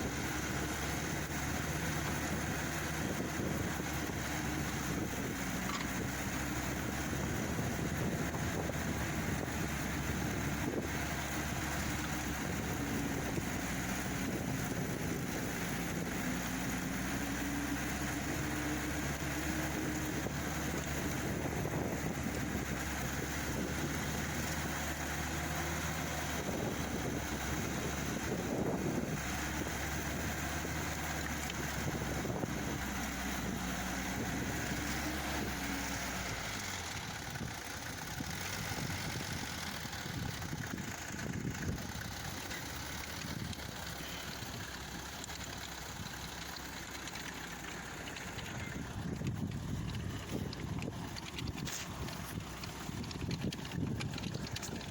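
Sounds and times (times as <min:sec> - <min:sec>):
tiller engine running under load: 0:00.0 - 0:54.9.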